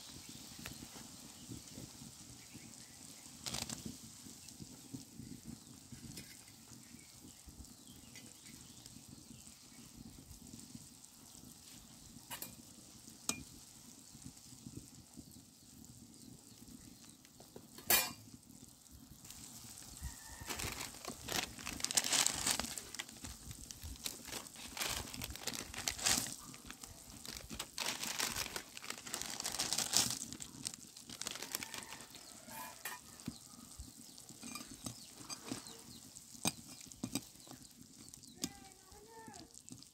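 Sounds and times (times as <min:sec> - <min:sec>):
broth boiling and sizzling: 0:00.0 - 0:39.9
crackling: 0:00.0 - 0:39.9.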